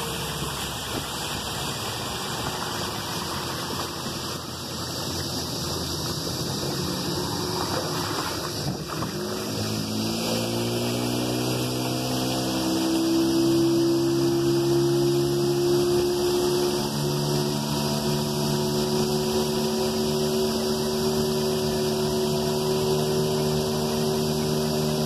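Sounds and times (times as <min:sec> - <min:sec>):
outboard motor running: 0:00.0 - 0:25.0
water rushing along hull: 0:00.0 - 0:25.0.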